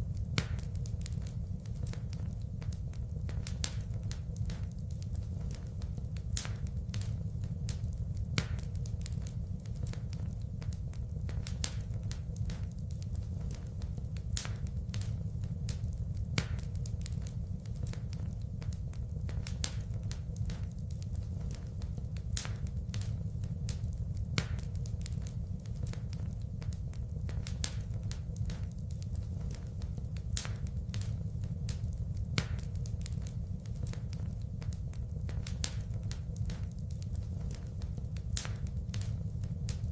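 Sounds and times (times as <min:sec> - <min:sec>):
low fire rumble: 0:00.0 - 0:39.9
wood fire crackling and popping: 0:00.0 - 0:39.9.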